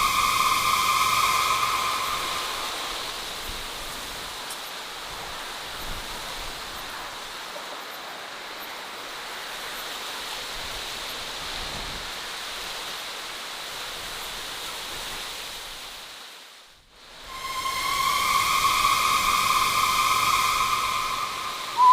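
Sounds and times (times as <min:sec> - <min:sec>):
steady rushing hiss: 0:00.0 - 0:21.9.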